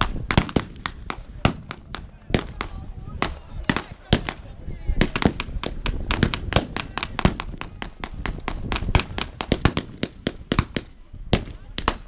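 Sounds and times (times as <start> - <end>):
blank gunfire shots: 0.0 - 4.4, 5.0 - 12.0.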